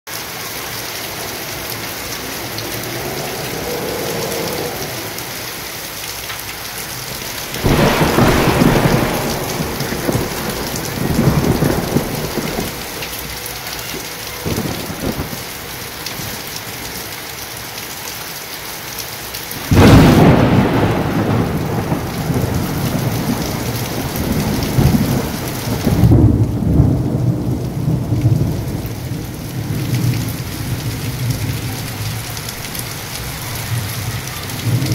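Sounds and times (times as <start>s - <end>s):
heavy rain: 0.1s - 34.9s
thunder rumbling: 0.6s - 16.9s, 19.6s - 34.9s.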